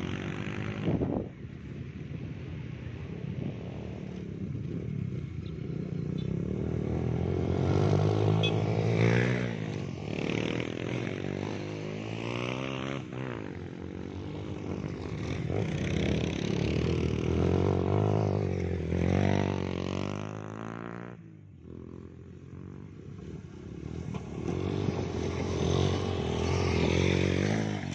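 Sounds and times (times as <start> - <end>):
dirt bikes revving past: 0.0 - 1.4, 2.9 - 27.9.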